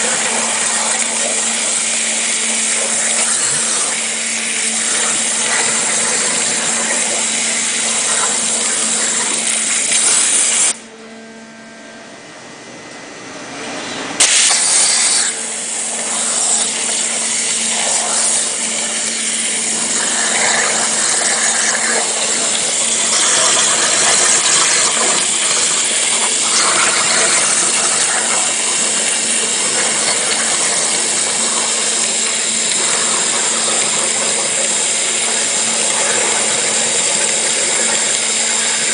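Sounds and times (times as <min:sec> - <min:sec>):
high-pressure water jet hiss: 0:00.0 - 0:10.8, 0:14.2 - 0:38.9
constant machine hum: 0:00.0 - 0:38.9.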